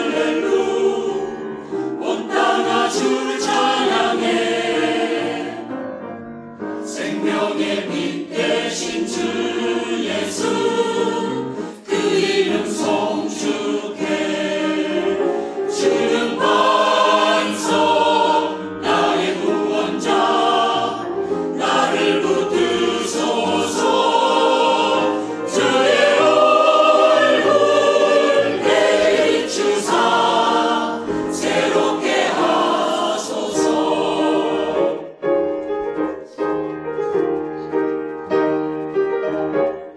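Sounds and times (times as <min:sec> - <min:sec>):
choir singing in parts: 0:00.0 - 0:06.0, 0:06.8 - 0:35.6
piano accompaniment: 0:00.0 - 0:39.9.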